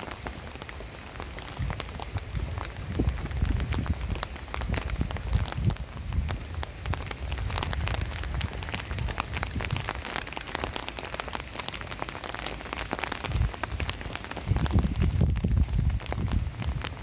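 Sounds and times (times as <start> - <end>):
rain on wet pavement: 0.0 - 17.0.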